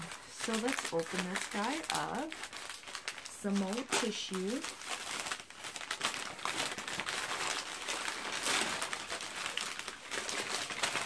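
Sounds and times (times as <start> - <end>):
tissue paper crinkling: 0.0 - 11.0.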